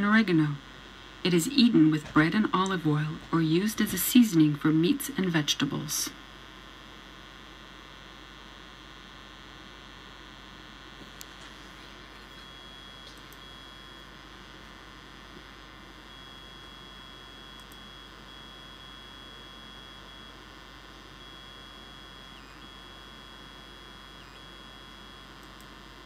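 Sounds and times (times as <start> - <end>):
faint high electronic whine: 0.0 - 26.0
low hum and hiss: 0.0 - 26.0.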